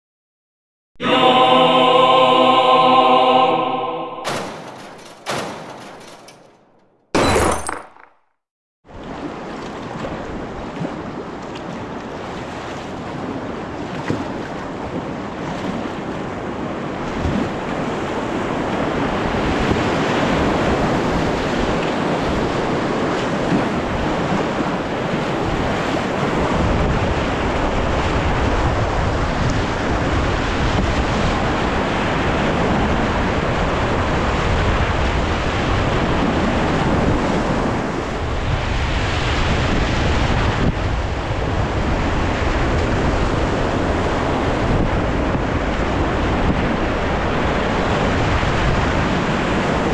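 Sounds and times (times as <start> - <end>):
wind buffeting microphone: 9.2 - 49.9.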